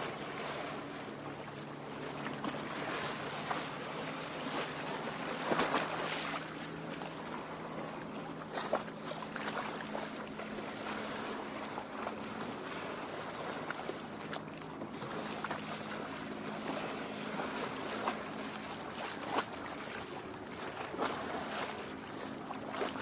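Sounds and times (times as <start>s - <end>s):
water lapping against shore: 0.0s - 23.0s.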